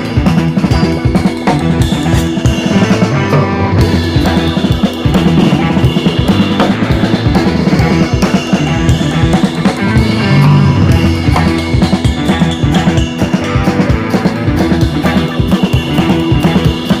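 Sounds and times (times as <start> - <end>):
rock music with drums bass and guitar: 0.0 - 17.0.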